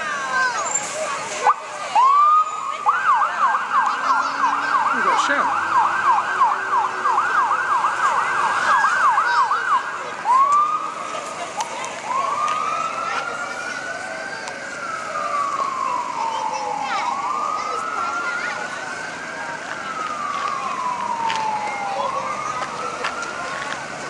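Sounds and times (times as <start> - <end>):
siren rising whoop: 1.4 - 10.9, 12.0 - 23.5
siren yelping: 1.4 - 11.0, 12.0 - 23.7
siren slow wail: 1.4 - 11.3, 11.9 - 24.0.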